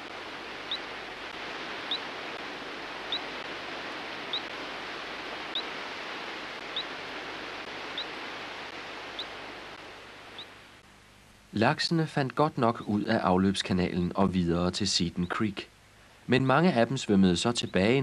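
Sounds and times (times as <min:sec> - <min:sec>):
steady receiver hiss: 0:00.0 - 0:18.0.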